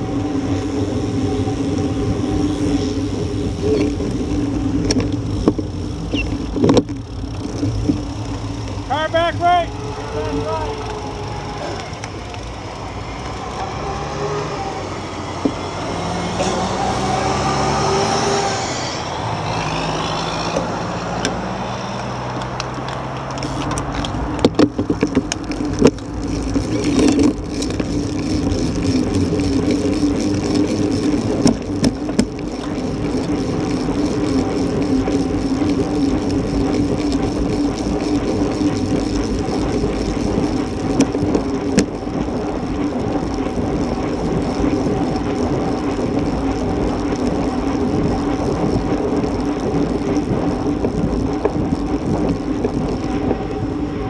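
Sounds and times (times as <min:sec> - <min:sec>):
bicycle tyre noise: 0:00.0 - 0:54.0
truck engines in traffic: 0:00.0 - 0:54.0
wind rush on microphone: 0:00.0 - 0:54.0.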